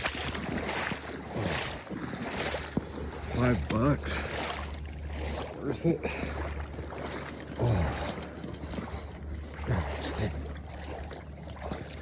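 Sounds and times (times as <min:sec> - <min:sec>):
water sloshing from wading: 0:00.0 - 0:12.0
wind buffeting microphone: 0:00.0 - 0:12.0.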